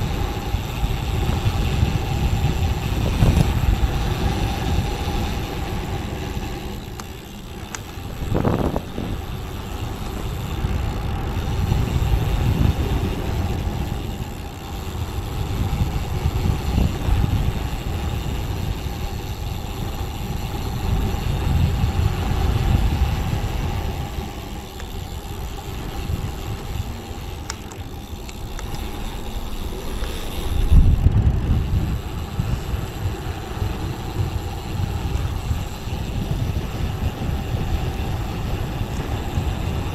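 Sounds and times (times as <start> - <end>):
bicycle tyre noise: 0.0 - 39.9
faint steady whine: 0.0 - 39.9
wind rushing over microphone: 0.0 - 39.9.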